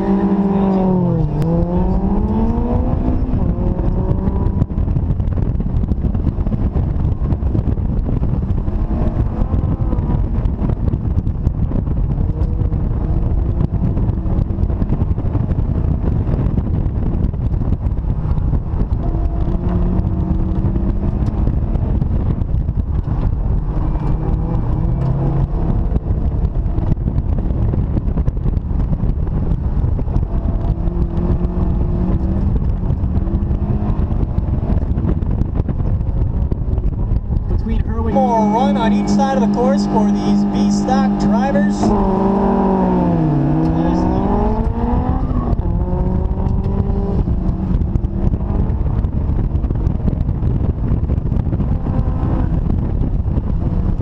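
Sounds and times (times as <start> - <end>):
car engine accelerating: 0.0 - 54.0
wind buffeting microphone: 0.0 - 54.0.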